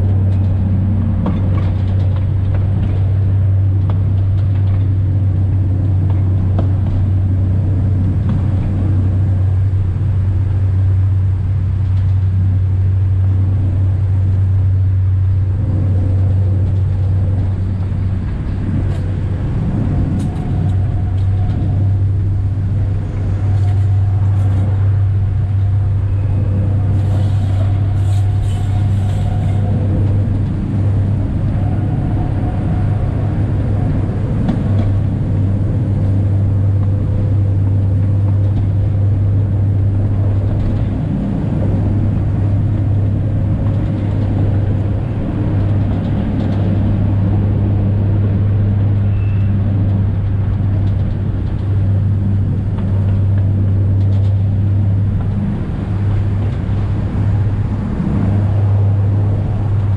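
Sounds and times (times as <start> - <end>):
low train engine drone: 0.0 - 59.9
wheel and track rumble: 0.0 - 59.9.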